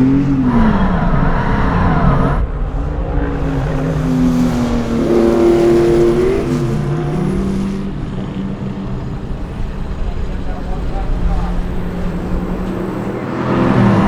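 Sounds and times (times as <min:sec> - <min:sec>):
racing car engine passing: 0:00.0 - 0:14.0.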